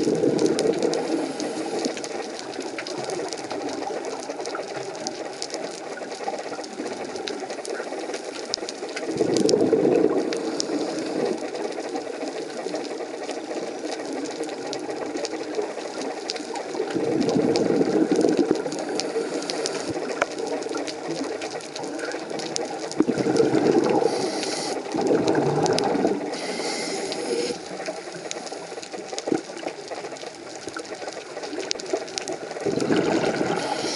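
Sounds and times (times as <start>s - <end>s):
faint crackle of small clicks: 0.0s - 33.9s
underwater exhaled air bubbling: 0.0s - 33.9s.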